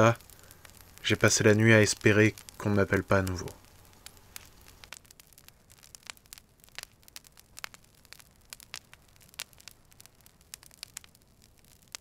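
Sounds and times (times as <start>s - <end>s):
low hiss: 0.0s - 12.0s
wood fire crackling: 0.0s - 12.0s.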